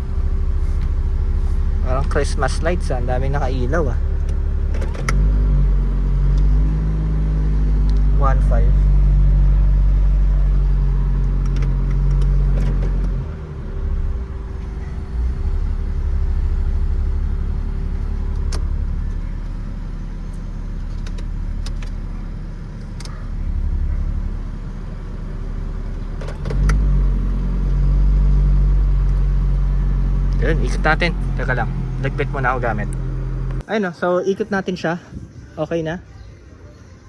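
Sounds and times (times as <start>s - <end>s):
car engine idling: 0.0s - 33.7s.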